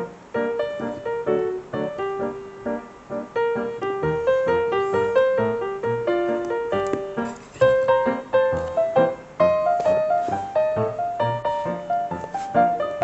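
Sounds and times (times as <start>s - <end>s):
keyboard melody: 0.0s - 13.0s.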